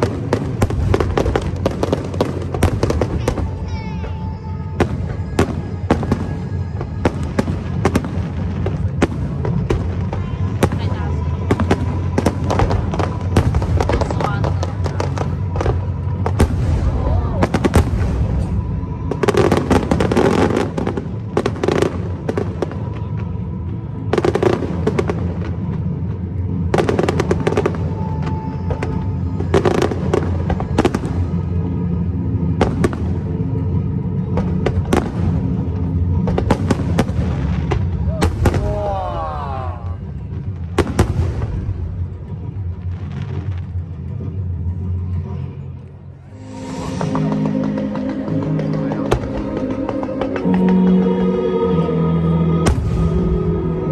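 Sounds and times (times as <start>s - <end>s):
fireworks crackling: 0.0s - 53.9s
steady low rumble: 0.0s - 53.9s.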